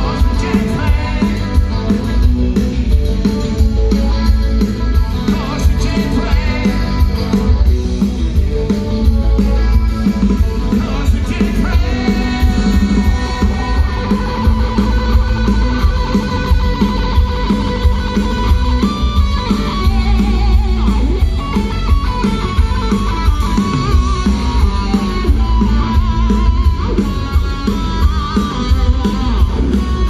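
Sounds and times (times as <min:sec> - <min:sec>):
lead guitar melody: 0:00.0 - 0:30.0
rock band playing live: 0:00.0 - 0:30.0.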